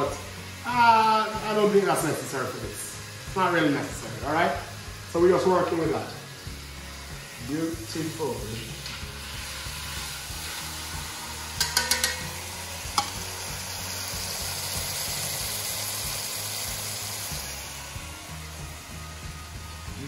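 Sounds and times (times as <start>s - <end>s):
meat sizzling in pot: 0.0s - 20.0s.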